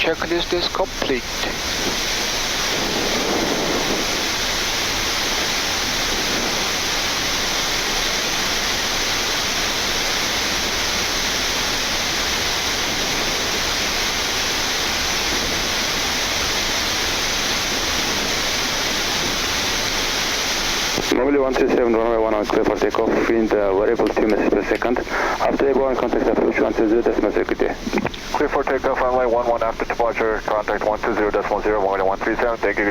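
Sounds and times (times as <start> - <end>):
cockpit air conditioning hiss: 0.0 - 32.9.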